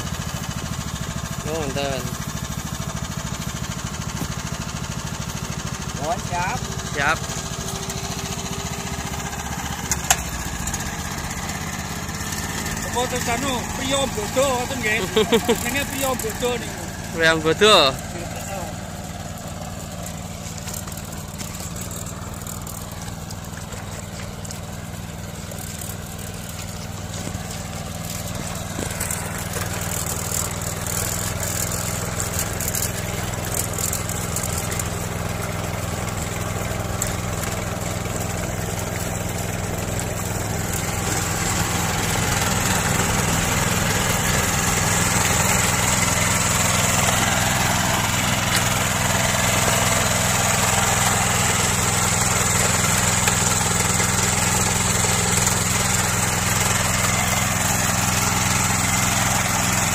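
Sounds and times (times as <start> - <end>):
small engine running steadily: 0.0 - 59.9.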